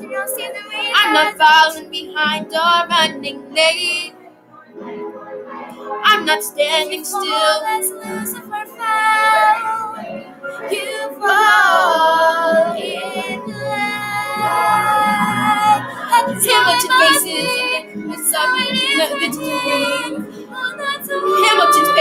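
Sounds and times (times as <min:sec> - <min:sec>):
girls singing: 0:00.0 - 0:04.2, 0:05.8 - 0:22.0.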